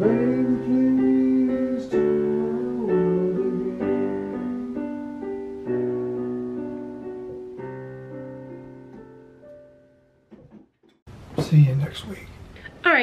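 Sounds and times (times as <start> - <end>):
electronic piano chords: 0.0 - 11.0.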